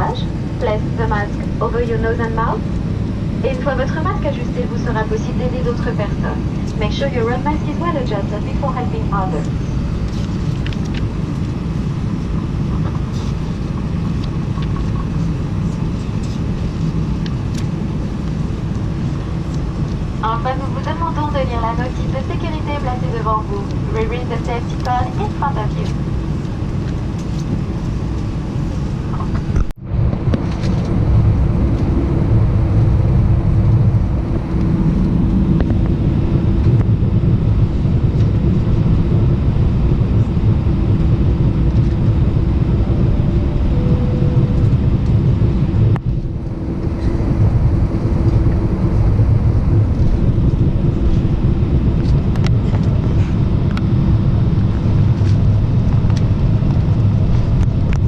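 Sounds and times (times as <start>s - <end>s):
aircraft cabin engine hum: 0.0s - 58.0s.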